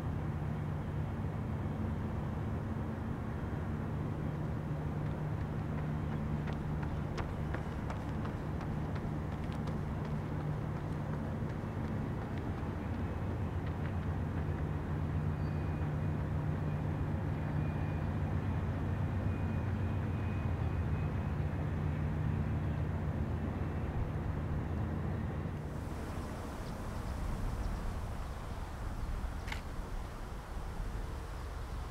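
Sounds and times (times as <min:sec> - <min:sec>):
distant locomotive engine drone: 0:00.0 - 0:31.9
rumble of rolling train: 0:00.0 - 0:31.9.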